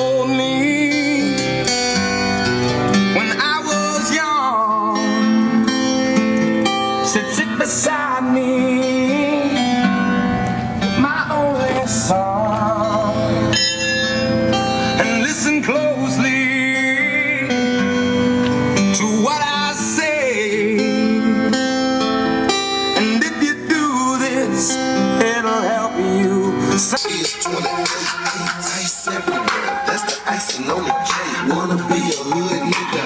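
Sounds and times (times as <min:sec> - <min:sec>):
steel guitar: 0:00.0 - 0:30.1
country song on car stereo: 0:00.0 - 0:33.0.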